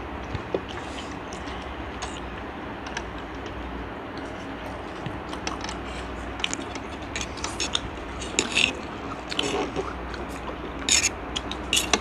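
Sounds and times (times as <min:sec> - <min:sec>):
sharp mouth clicks and smacks: 0:00.2 - 0:12.0
children chewing and slurping noodles: 0:00.4 - 0:12.0.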